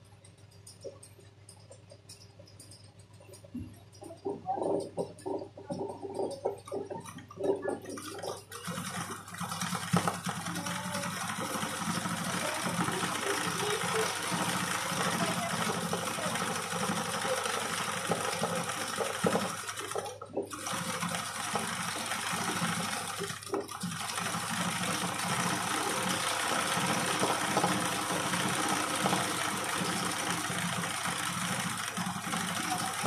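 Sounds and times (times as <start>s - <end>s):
sewing machine running: 4.0s - 33.0s.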